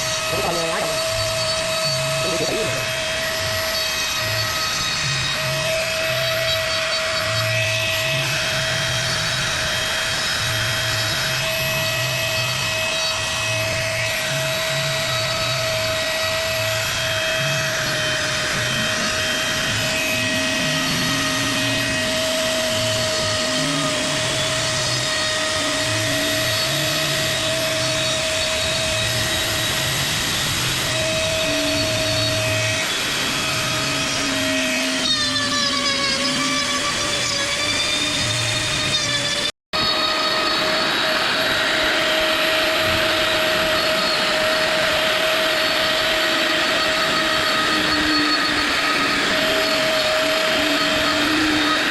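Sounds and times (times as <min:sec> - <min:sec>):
rough grinding of wood: 0:00.0 - 0:40.8, 0:41.4 - 0:51.9
electric power tool whining: 0:00.0 - 0:51.9.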